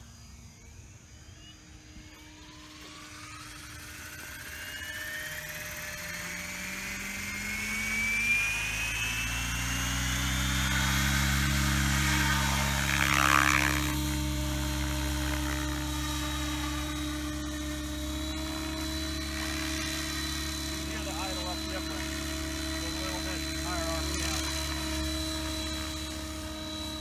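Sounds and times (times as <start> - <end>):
electric motor whine: 0.0 - 27.0
helicopter rotor beat: 0.0 - 27.0.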